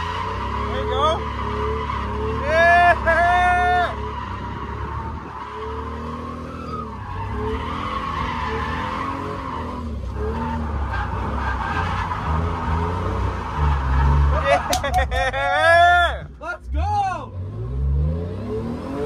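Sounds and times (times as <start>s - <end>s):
car engine revving: 0.0s - 19.0s
tyres skidding: 0.0s - 19.0s.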